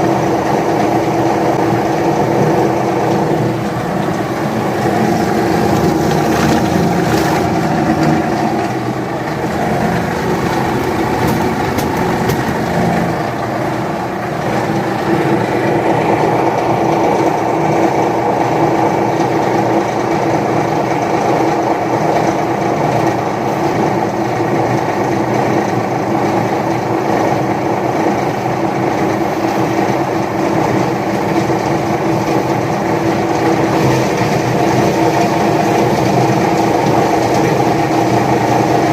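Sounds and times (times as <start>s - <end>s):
paper shredder running: 0.0s - 38.9s.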